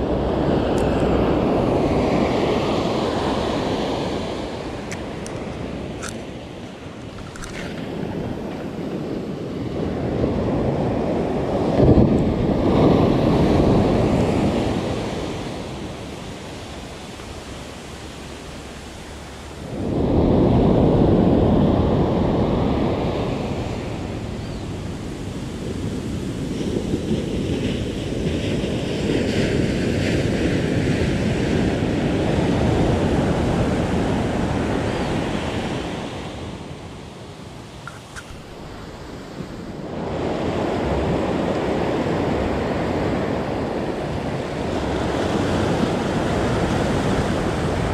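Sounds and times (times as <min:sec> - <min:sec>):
ocean surf breaking on beach: 0:00.0 - 0:47.9.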